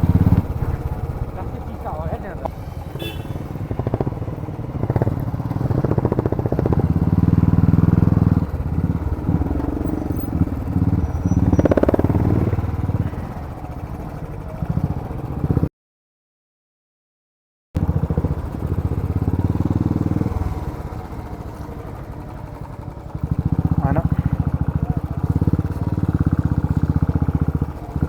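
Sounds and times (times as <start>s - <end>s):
motorbike engine running: 0.0s - 15.7s, 17.8s - 28.0s.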